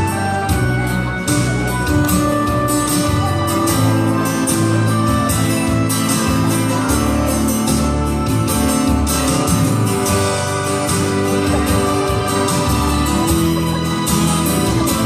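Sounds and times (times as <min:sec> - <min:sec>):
bass: 0:00.0 - 0:15.0
guitar leading: 0:00.0 - 0:15.0
steady drum beat: 0:00.0 - 0:15.0.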